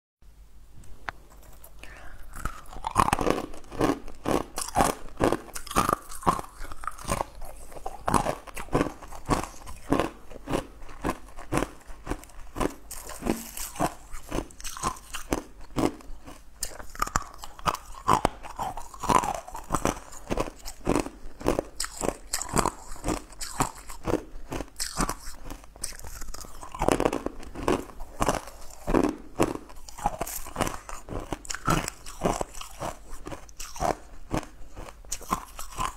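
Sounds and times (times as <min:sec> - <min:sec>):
crunching and chewing candy: 0:01.1 - 0:35.9.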